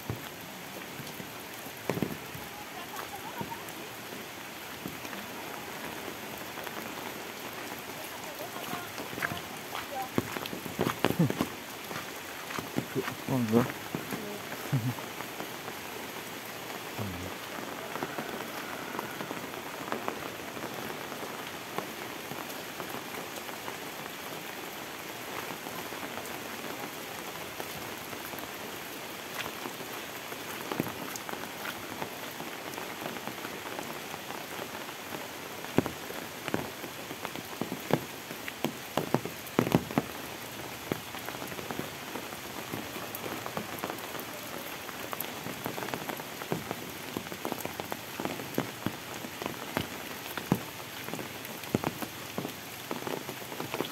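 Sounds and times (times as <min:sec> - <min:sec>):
sharp rain taps close by: 0:00.0 - 0:53.9
steady rain falling: 0:00.0 - 0:53.9.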